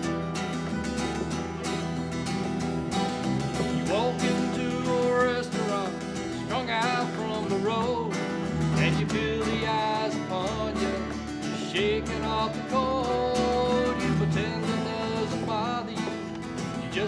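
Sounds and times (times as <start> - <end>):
acoustic guitars strumming chords: 0.0 - 17.0
bending lead guitar melody: 0.0 - 17.0.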